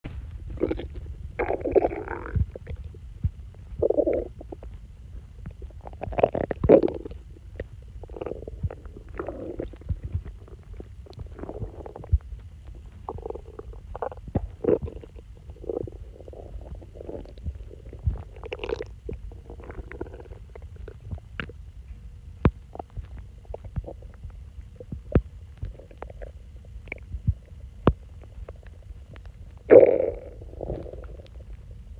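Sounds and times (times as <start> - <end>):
stomach growling and gurgling: 0.0 - 31.9.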